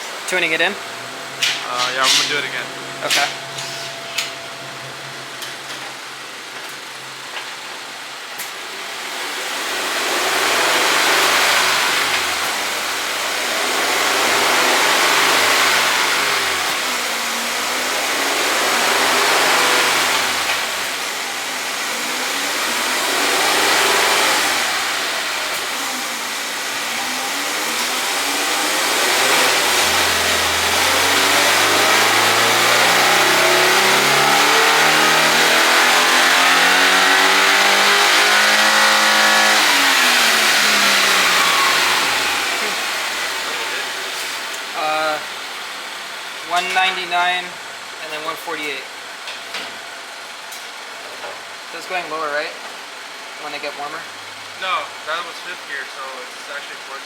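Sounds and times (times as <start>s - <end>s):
car engine revving on dyno: 0.0s - 57.0s.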